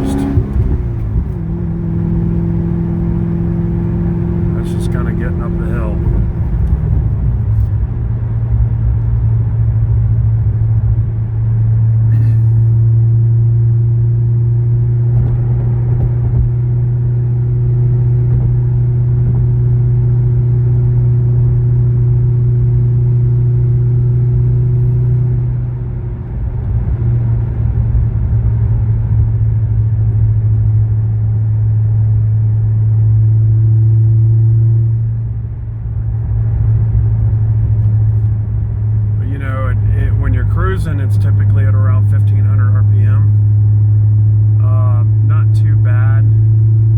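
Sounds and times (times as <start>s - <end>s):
car engine low drone: 0.0s - 46.9s.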